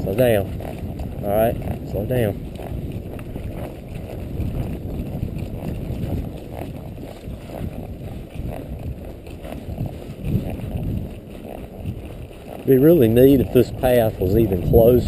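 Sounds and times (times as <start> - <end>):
horse walking: 0.0 - 15.0
wind rumbling on microphone: 0.0 - 15.0.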